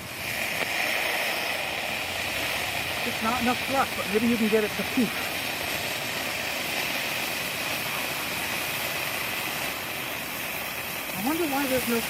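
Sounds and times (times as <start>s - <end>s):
rocket motor hissing: 0.0s - 12.0s.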